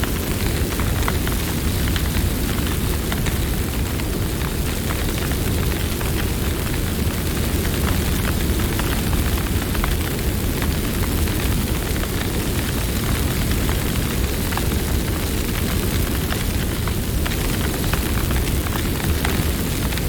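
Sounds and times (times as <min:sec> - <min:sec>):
campfire burning: 0:00.0 - 0:20.0
wood crackling and popping: 0:00.0 - 0:20.0.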